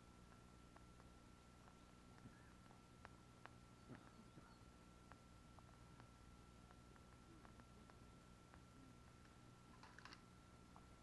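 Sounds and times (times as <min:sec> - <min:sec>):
faint high-pitched whine: 0:00.0 - 0:11.0
soft ticks: 0:00.2 - 0:10.9.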